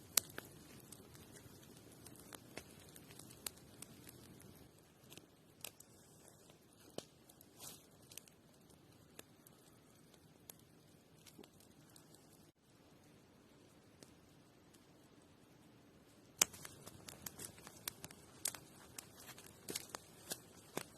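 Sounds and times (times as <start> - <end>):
crackle: 0.0 - 20.9
faint low hiss: 0.0 - 20.9.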